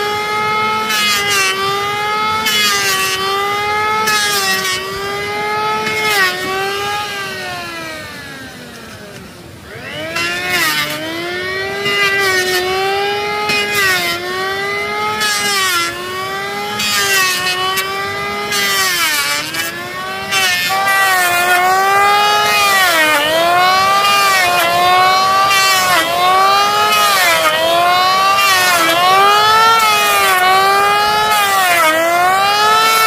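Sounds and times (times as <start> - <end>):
electric hand planer cutting wood: 0.0 - 33.0.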